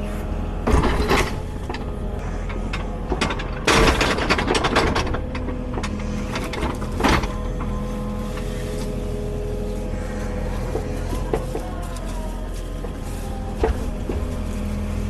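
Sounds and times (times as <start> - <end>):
excavator engine running: 0.0 - 15.0
branches cracking and snapping: 2.8 - 15.0.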